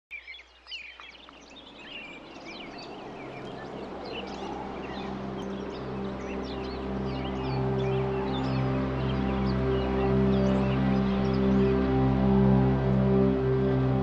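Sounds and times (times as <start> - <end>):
birds chirping and trilling: 0.1 - 14.0
ambient music drone: 0.9 - 14.0.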